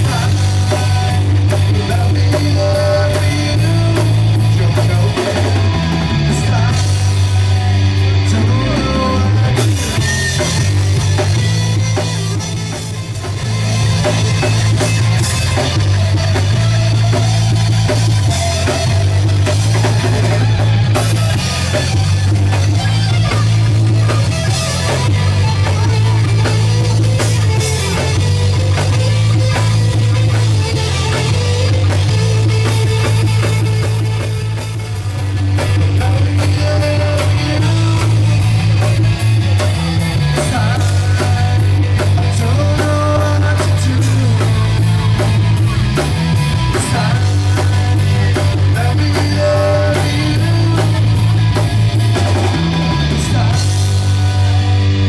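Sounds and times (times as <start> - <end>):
live rock band playing: 0.0 - 55.0
loud steady bass line: 0.0 - 55.0.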